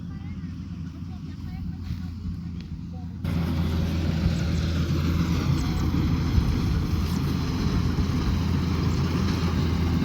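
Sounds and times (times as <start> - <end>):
combine harvester engine droning: 0.0 - 10.0.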